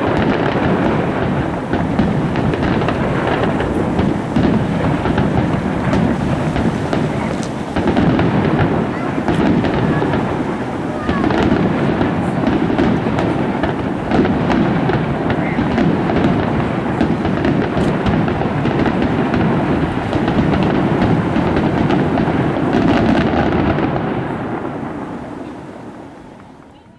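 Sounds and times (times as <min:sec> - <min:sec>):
fireworks booming and crackling: 0:00.0 - 0:26.9.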